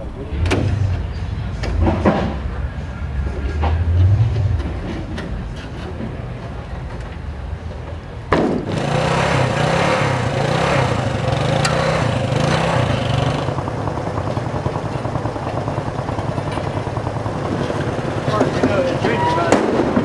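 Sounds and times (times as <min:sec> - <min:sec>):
small motorcycle engines running: 0:00.0 - 0:20.0.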